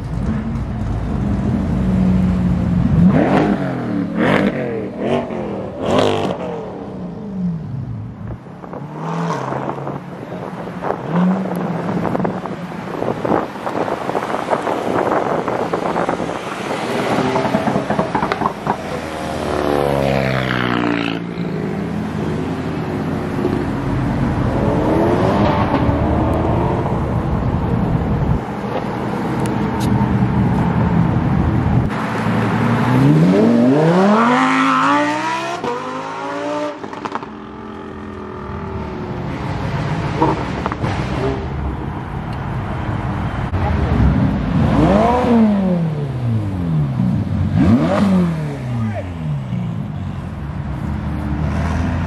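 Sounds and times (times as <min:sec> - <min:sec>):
car engines revving while accelerating: 0:00.1 - 0:28.4, 0:29.4 - 0:41.8, 0:43.4 - 0:52.0.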